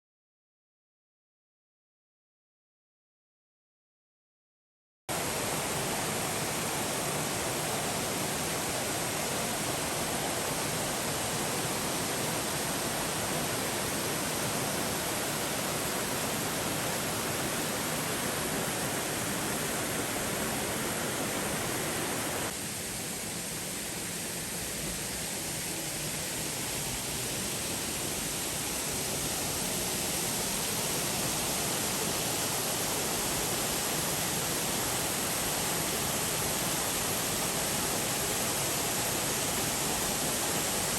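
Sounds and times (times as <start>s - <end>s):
waterfall roaring: 5.1s - 40.9s.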